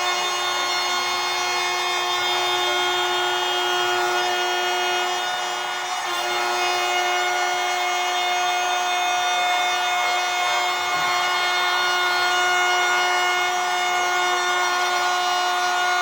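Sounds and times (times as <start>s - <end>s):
power tool motor whine: 0.0s - 16.0s.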